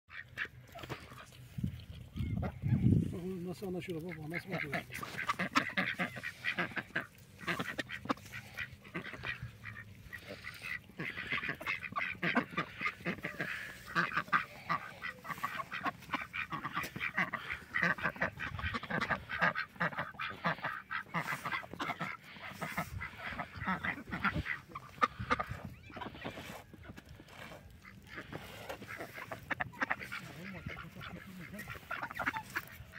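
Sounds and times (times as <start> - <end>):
ducks quacking: 0.1 - 32.9.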